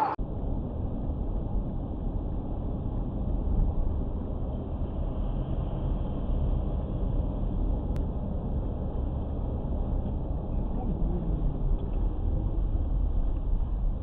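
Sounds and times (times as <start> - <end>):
car interior road and engine rumble: 1.6 - 14.0.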